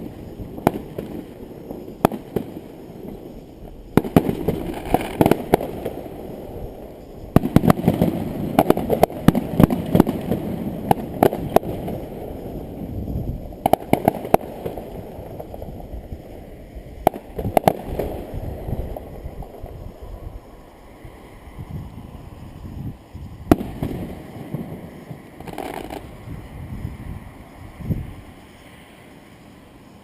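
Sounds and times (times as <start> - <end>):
firework bangs and crackling: 0.0 - 20.7, 23.0 - 27.0.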